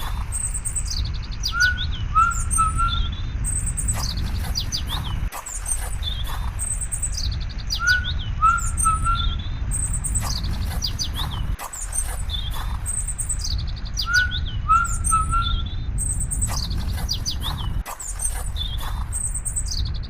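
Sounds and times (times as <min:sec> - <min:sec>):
birds chirping and whistling: 0:00.0 - 0:20.0
steady low rumble: 0:00.0 - 0:20.0.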